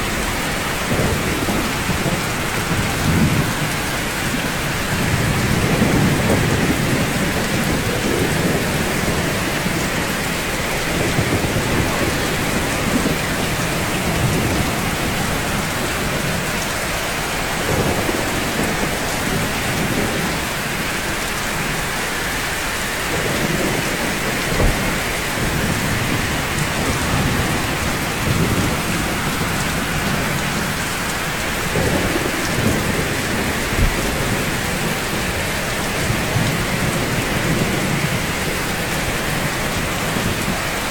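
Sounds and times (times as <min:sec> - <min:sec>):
rain falling on rooftops: 0:00.0 - 0:40.9.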